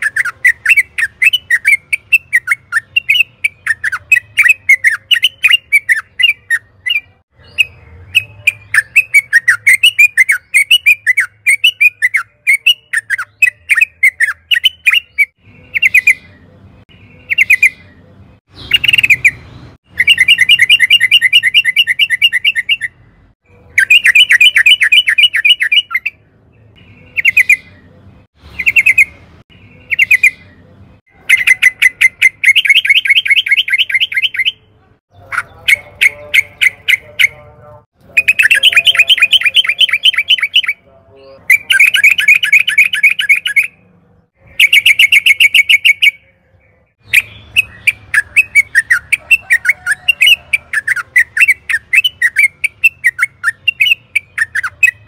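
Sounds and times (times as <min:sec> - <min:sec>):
bird singing chattering trills: 0:00.0 - 0:55.0.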